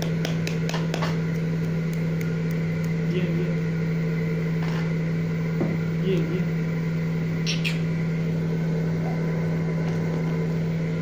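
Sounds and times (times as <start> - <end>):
low electrical motor hum: 0.0 - 11.0.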